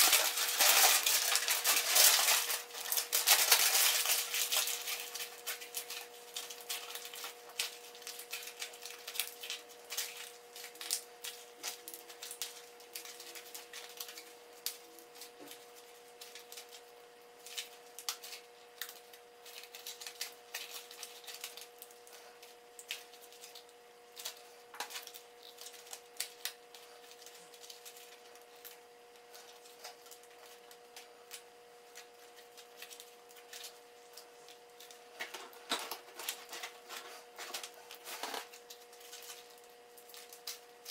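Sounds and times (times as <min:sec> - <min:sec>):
aluminium foil crumpling: 0:00.0 - 0:40.9
faint steady hum: 0:00.0 - 0:40.9.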